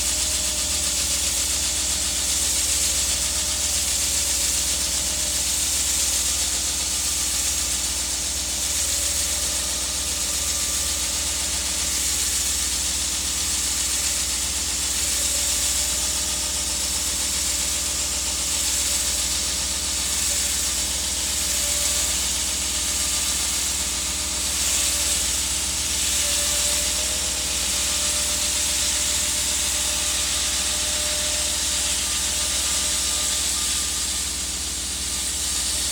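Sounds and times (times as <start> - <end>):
concrete saw cutting: 0.0 - 35.9.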